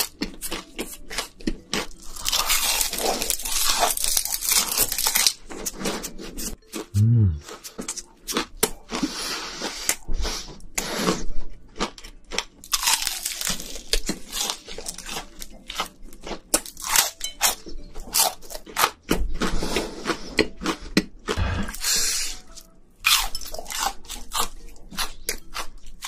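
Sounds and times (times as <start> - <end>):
crunchy chewing of fried shrimp: 0.0 - 26.0.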